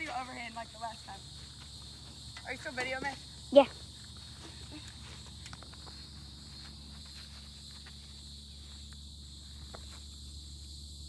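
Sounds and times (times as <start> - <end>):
footsteps: 0.0 - 10.2
high insect drone: 0.0 - 11.0.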